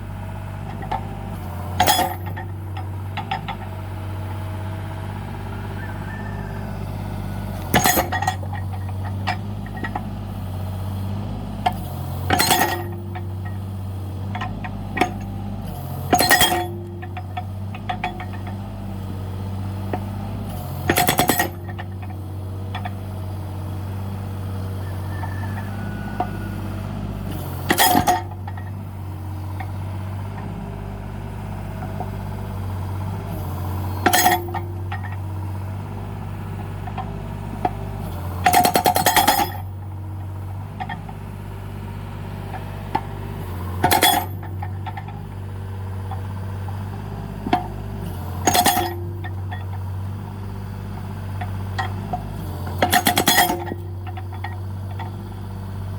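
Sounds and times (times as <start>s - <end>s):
excavator engine running: 0.0s - 55.9s
hydraulic breaker hammering logs: 0.0s - 55.9s.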